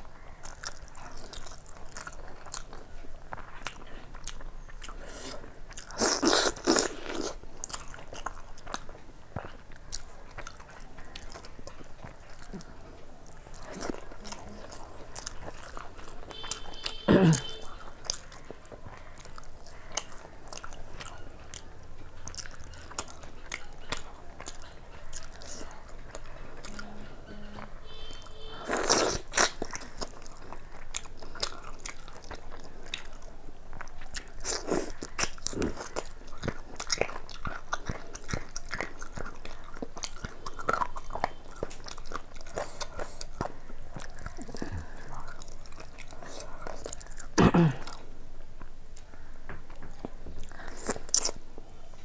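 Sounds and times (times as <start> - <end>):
crunchy chewing: 0.0 - 26.8, 27.9 - 52.0
person chewing food: 0.0 - 27.2, 27.8 - 52.0.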